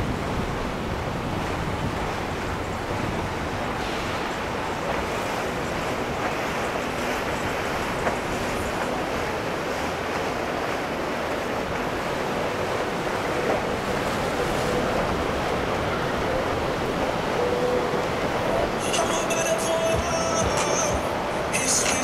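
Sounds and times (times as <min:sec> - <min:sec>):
moving water: 0:00.0 - 0:22.0
wind on microphone: 0:00.0 - 0:22.0.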